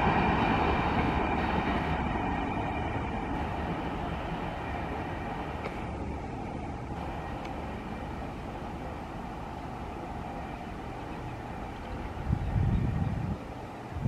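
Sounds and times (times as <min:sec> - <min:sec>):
freight train wheels rumbling on rails: 0:00.0 - 0:14.0.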